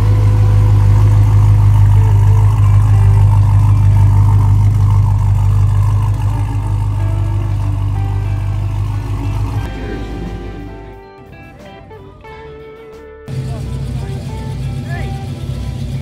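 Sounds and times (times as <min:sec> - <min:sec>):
car engine idling: 0:00.0 - 0:12.3, 0:13.0 - 0:16.0.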